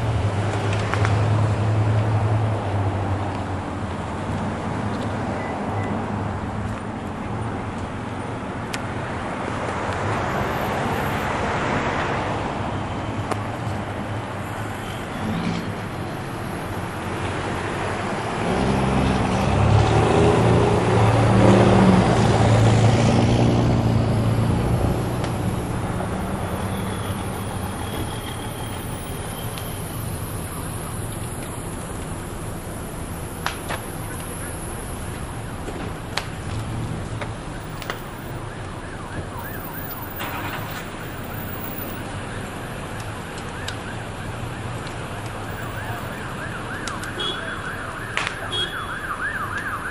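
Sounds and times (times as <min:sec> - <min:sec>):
heavy vehicle engine: 0:00.0 - 0:43.8
traffic noise: 0:00.0 - 0:49.9.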